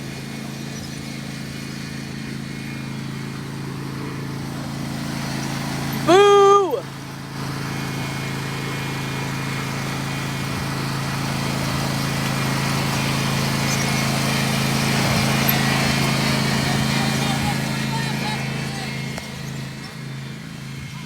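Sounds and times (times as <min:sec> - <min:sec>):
riding mower engine running: 0:00.0 - 0:21.0.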